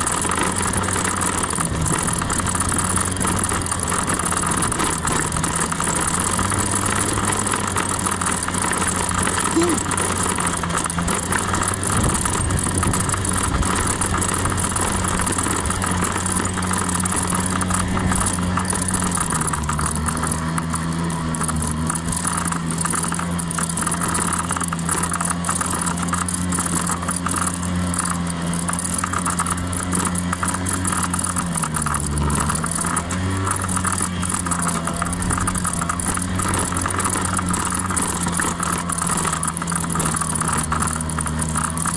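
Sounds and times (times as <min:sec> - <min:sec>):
scooter engine running: 0:00.0 - 0:41.9.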